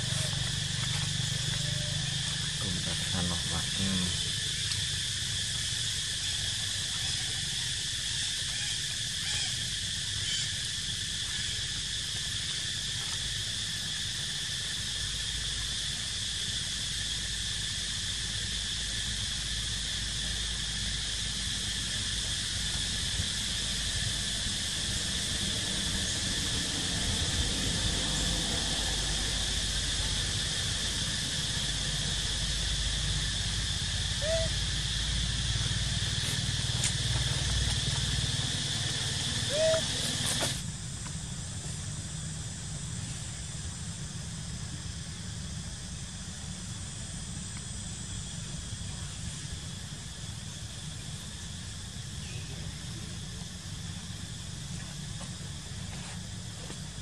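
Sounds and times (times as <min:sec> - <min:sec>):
insects droning in trees: 0:00.0 - 0:57.0.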